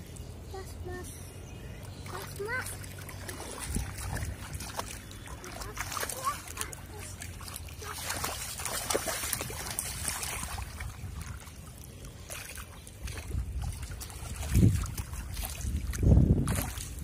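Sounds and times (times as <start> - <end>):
pond water splashing and trickling: 0.0 - 17.0.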